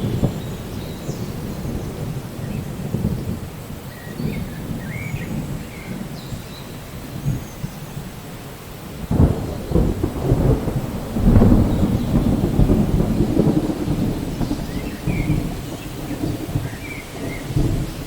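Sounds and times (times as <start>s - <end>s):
steady rain: 0.0s - 18.0s
thunder clap and rumble: 0.0s - 18.0s.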